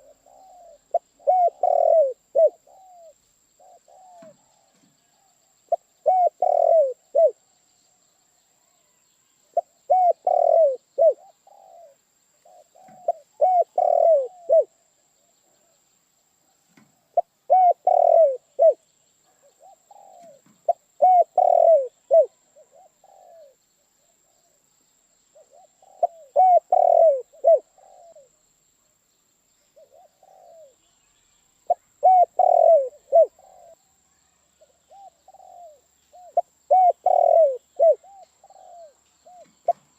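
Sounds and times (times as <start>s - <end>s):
dove cooing: 0.0s - 7.4s, 9.5s - 15.7s, 16.8s - 24.6s, 25.4s - 28.4s, 29.8s - 30.8s, 31.7s - 33.8s, 34.6s - 39.9s.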